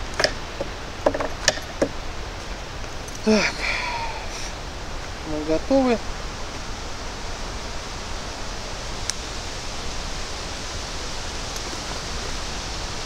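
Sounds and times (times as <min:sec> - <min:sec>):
wind through trees: 0:00.0 - 0:13.0.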